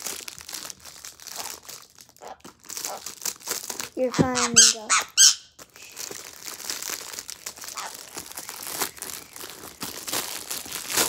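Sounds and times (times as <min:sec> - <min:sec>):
plastic bag crinkling: 0:00.0 - 0:04.9, 0:05.5 - 0:11.0.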